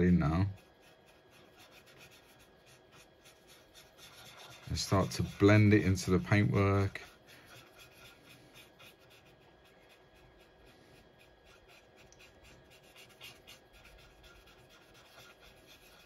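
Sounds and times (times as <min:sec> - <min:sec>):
cotton bud rubbing on plastic: 0:00.0 - 0:16.0.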